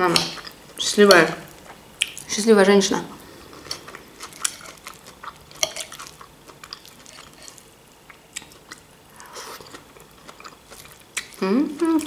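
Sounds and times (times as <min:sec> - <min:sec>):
person chewing food: 0:00.1 - 0:02.3, 0:03.1 - 0:12.0.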